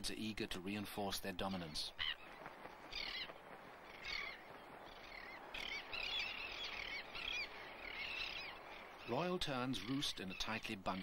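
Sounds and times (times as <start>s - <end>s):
terns calling: 1.3s - 11.0s.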